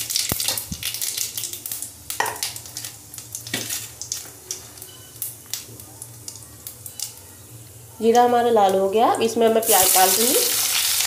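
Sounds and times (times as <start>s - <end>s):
seeds sizzling in hot oil: 0.0s - 8.1s, 9.4s - 11.0s.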